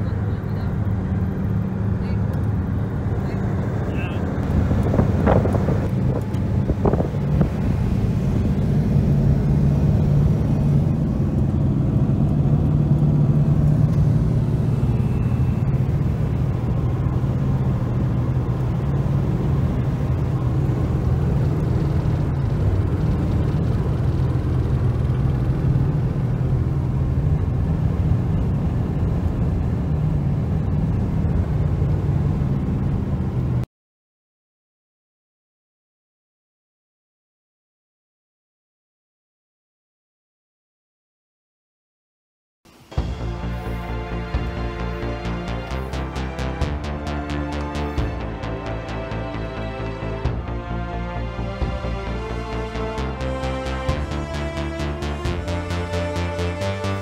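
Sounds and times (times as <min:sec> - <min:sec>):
car cabin engine and road drone: 0:00.0 - 0:33.7, 0:42.7 - 0:57.0.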